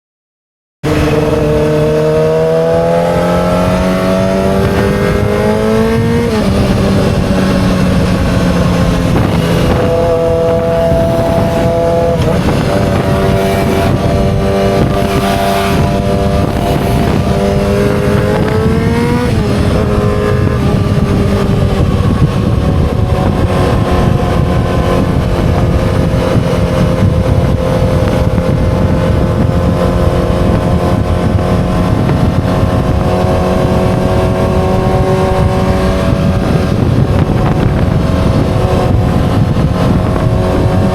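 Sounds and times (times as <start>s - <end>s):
motorcycle engine revving: 0.8s - 40.9s.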